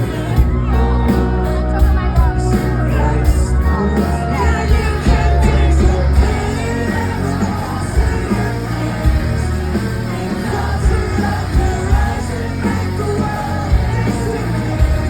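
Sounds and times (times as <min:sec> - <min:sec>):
live rock band with vocals: 0:00.0 - 0:15.0.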